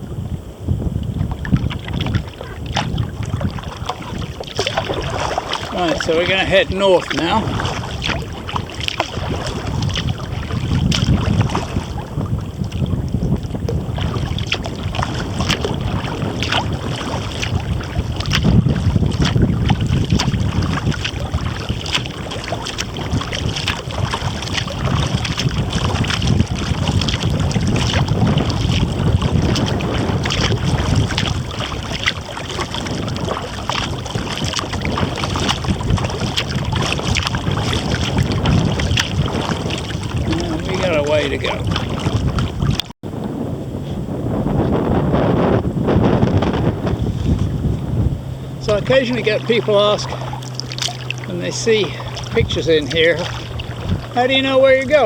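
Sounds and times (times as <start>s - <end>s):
wind rumbling on microphone: 0.0s - 55.0s
paddle splashes and drips: 1.0s - 43.0s, 46.2s - 55.0s.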